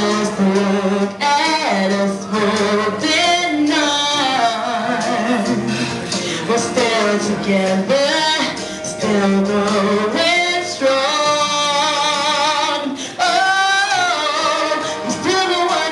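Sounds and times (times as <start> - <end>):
instrumental backing music: 0.0 - 15.9
woman singing into microphone: 0.0 - 15.9.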